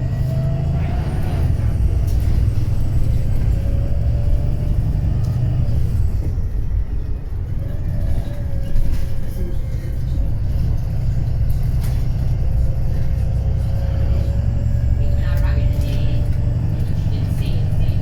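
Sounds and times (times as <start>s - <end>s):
bus engine low rumble: 0.0s - 18.0s.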